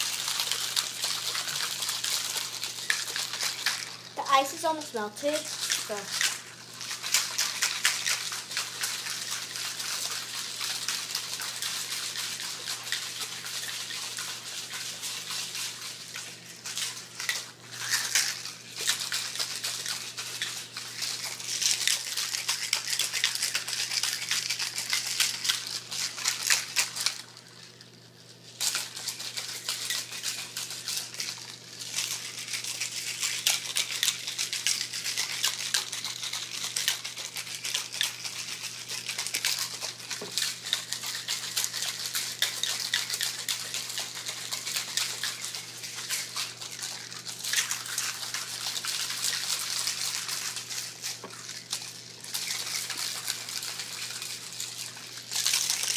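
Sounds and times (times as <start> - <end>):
ice and salt rattling and sloshing: 0.0 - 55.9.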